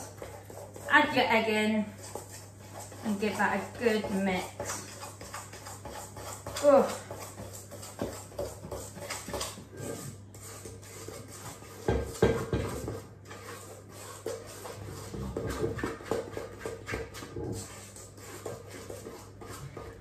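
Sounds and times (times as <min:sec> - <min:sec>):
metal spoon scraping a bowl: 0:00.0 - 0:20.0.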